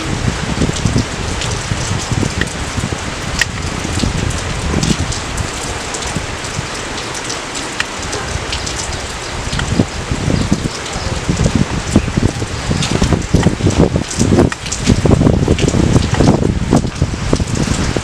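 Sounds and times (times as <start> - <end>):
steady rain falling: 0.0 - 18.0
water drips and splashes: 0.0 - 18.0.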